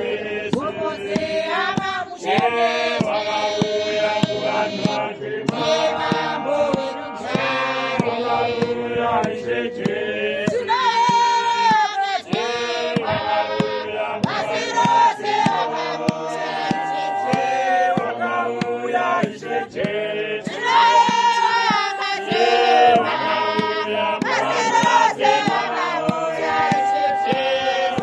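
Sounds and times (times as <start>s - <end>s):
congregation singing a hymn: 0.0s - 28.0s.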